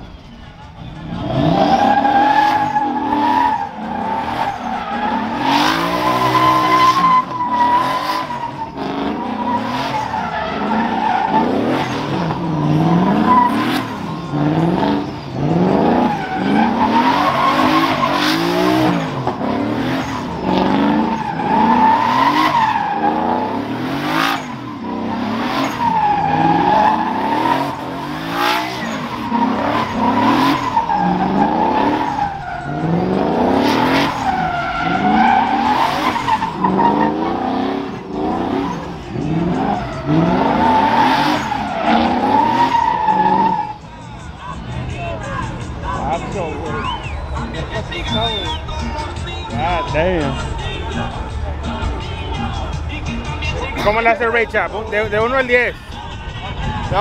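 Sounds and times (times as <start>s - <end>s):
truck engine revving: 0.0s - 57.0s
tyres squealing: 1.0s - 50.7s.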